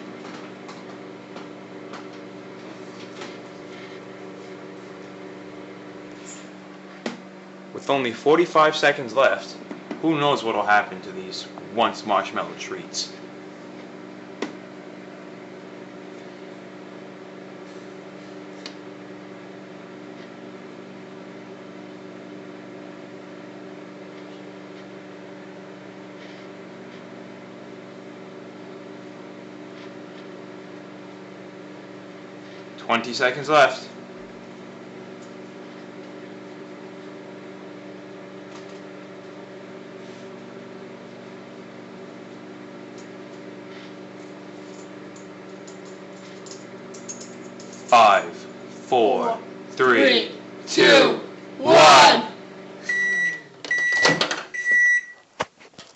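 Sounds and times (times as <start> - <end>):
microwave oven humming: 0.0 - 55.9.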